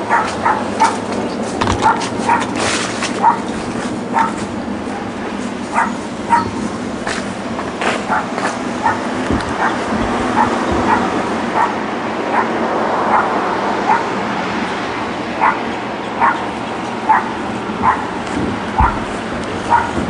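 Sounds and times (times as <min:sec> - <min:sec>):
dogs yapping: 0:00.0 - 0:06.8, 0:08.0 - 0:14.2, 0:15.3 - 0:20.0.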